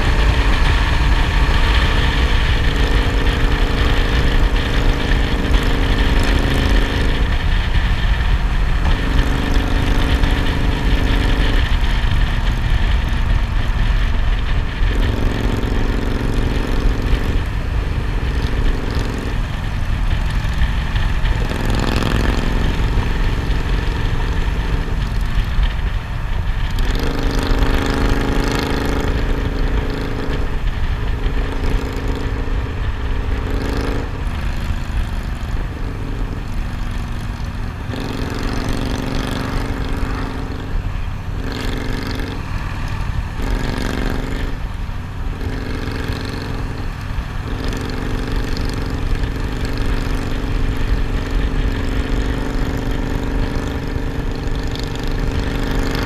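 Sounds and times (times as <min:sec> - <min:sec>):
low wind rumble: 0:00.0 - 0:55.8
motorcycle engine running: 0:00.0 - 0:56.0.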